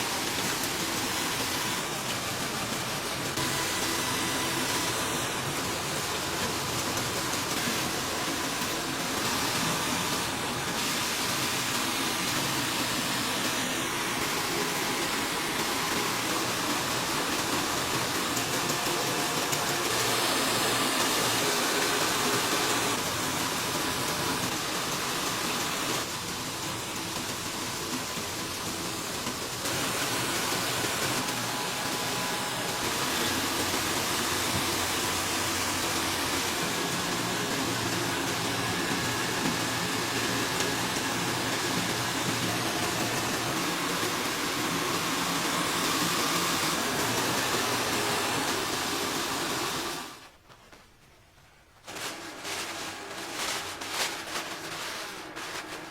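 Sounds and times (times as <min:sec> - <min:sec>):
knitting machines running: 0:00.0 - 0:50.8, 0:51.7 - 0:55.9.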